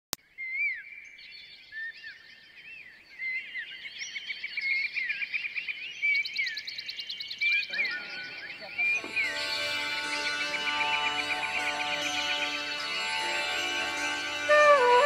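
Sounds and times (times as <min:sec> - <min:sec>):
flock of birds chirping: 0:00.3 - 0:15.0.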